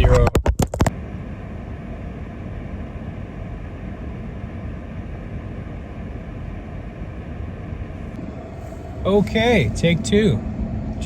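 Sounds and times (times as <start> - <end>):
vehicle engine running: 0.0 - 11.0
heater fan blowing: 0.8 - 11.0.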